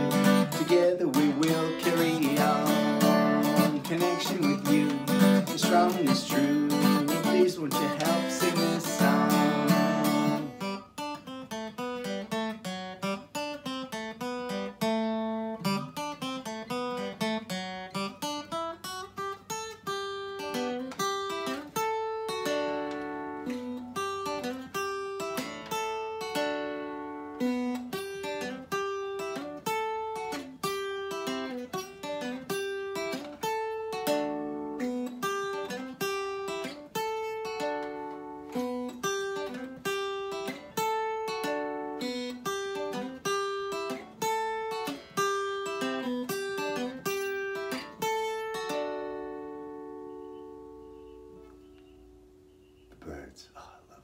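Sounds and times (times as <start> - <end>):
acoustic guitar picking: 0.0 - 53.3.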